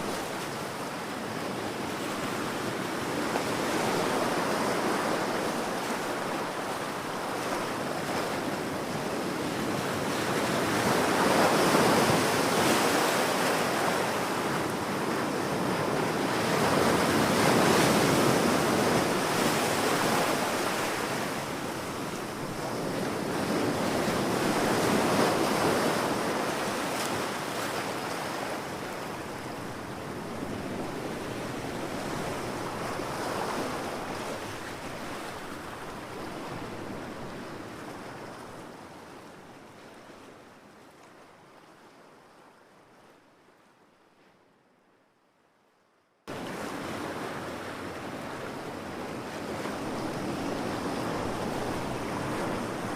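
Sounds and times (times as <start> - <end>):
ocean waves breaking on beach: 0.0 - 42.4, 46.3 - 52.9.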